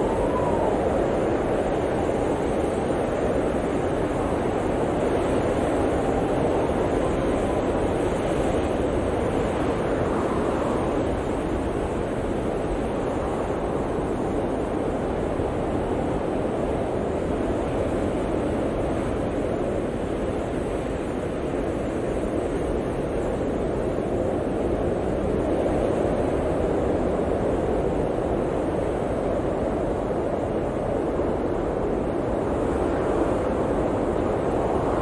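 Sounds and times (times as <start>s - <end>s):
blizzard wind blowing: 0.0s - 35.0s.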